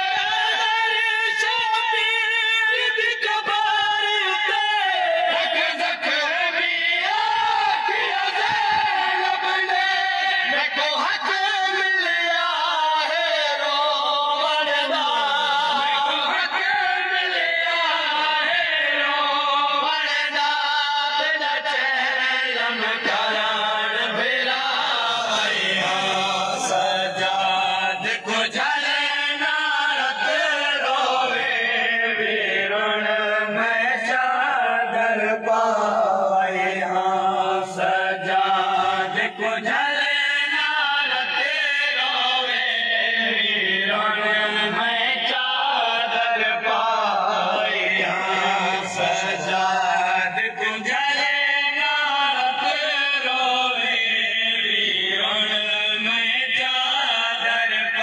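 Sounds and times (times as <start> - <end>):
lead reciter's voice: 0.0 - 58.0
men chanting a lament: 0.0 - 58.0.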